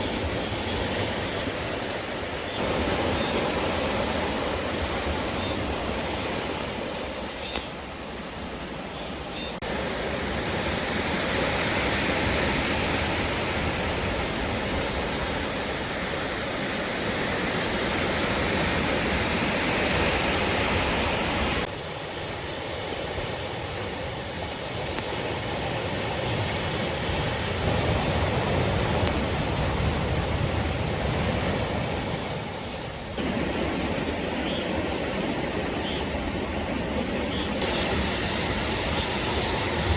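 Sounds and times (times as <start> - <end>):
sea waves breaking on shore: 0.0 - 7.6, 8.3 - 39.9.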